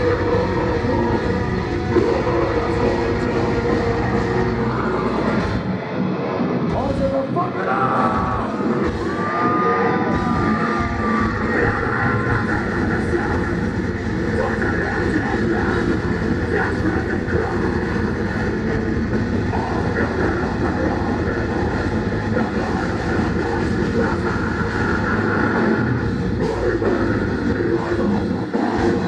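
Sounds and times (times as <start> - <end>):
distorted guitars: 0.0 - 29.0.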